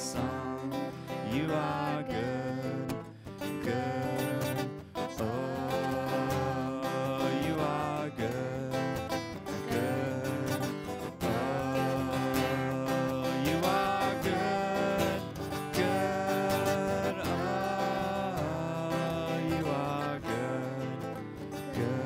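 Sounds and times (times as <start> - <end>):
acoustic guitar strumming: 0.0 - 22.0
person singing: 0.0 - 22.0.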